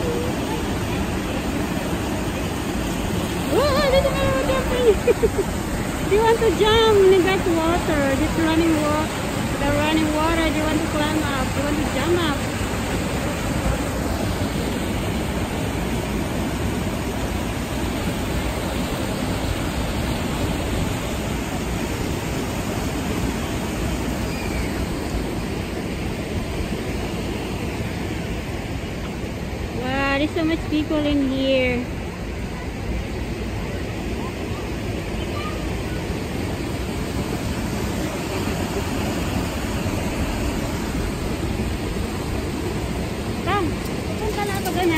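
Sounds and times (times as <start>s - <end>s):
river rushing over weir: 0.0s - 44.9s.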